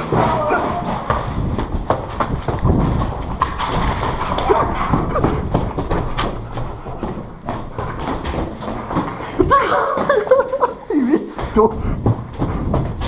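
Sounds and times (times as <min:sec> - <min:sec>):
boot footsteps on concrete: 0:00.1 - 0:13.0.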